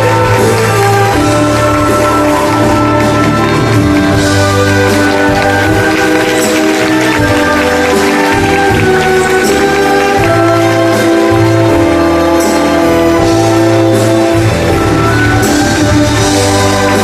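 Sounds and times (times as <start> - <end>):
orchestra playing held chords: 0.0 - 17.0.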